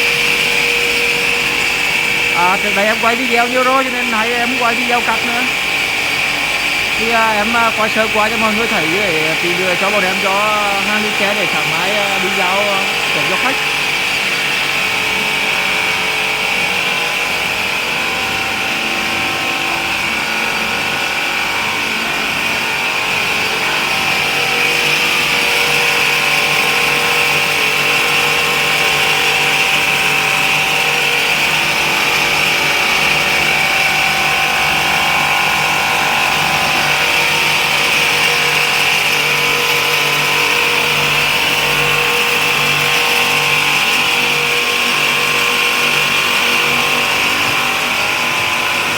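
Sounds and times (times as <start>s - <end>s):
stone saw whine and hiss: 0.0s - 48.9s.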